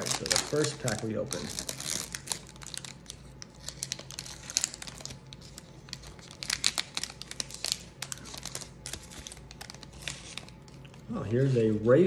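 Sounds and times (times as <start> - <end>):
wrapper tearing and crinkling: 0.0 - 10.9.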